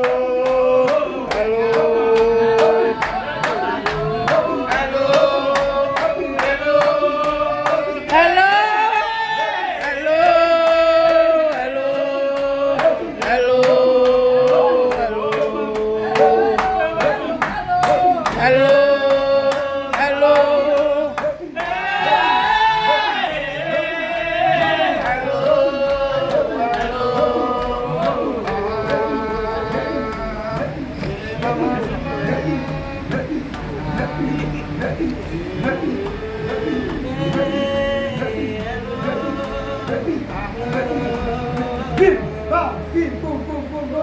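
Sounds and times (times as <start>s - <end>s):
voices singing slow song: 0.0s - 44.0s.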